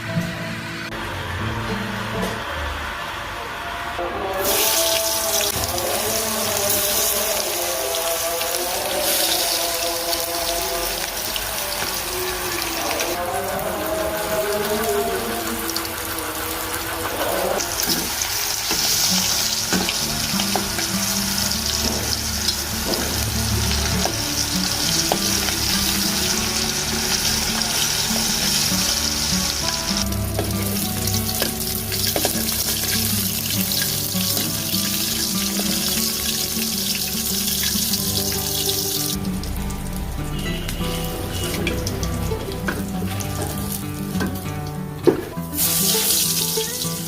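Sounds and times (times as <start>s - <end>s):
background music: 0.0s - 47.0s
curry sizzling in a pan: 4.4s - 47.0s.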